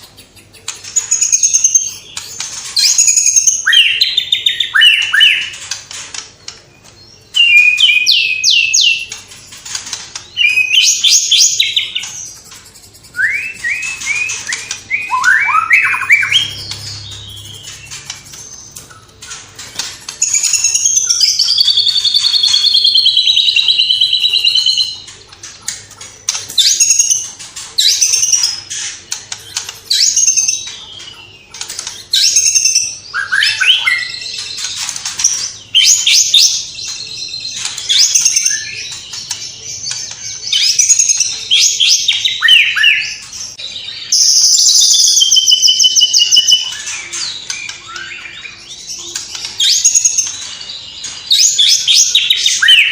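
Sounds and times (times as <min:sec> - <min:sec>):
songbird whistling and chirping: 0:00.0 - 0:05.6, 0:06.8 - 0:25.1, 0:26.5 - 0:52.9.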